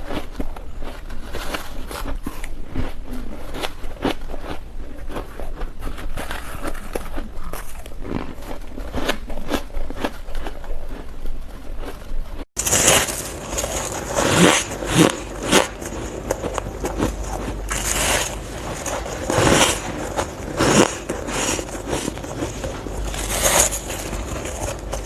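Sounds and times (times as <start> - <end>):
ice being chewed: 0.0 - 12.0, 12.6 - 25.0.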